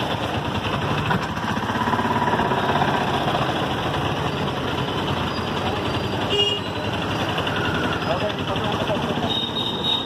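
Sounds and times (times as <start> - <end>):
auto-rickshaw engine running: 0.0 - 10.0
street traffic noise: 0.0 - 10.0.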